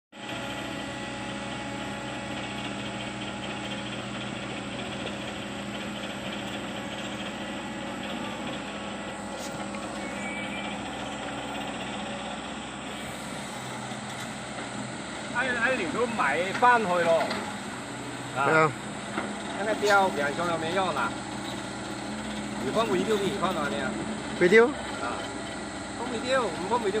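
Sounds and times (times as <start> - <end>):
excavator engine running: 0.2 - 27.0.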